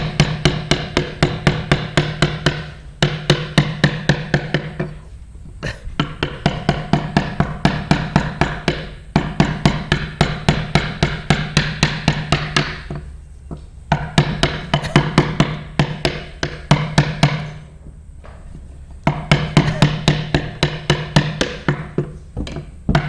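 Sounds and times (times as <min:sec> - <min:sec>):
mallet tapping chisel into wood: 0:00.0 - 0:05.0, 0:06.0 - 0:17.6, 0:19.0 - 0:23.0.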